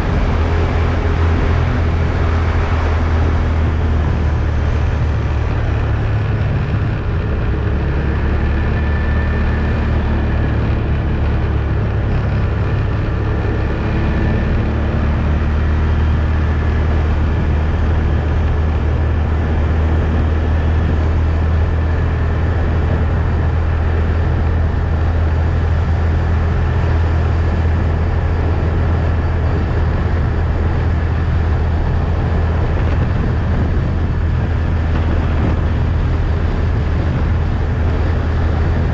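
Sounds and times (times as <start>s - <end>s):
atv engine droning: 0.0s - 38.9s.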